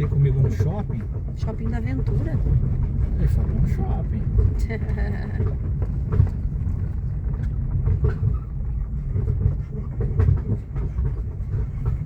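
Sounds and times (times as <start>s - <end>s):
car rumbling over rough dirt road: 0.0s - 12.0s
knocks and rattles over bumps: 0.0s - 12.0s.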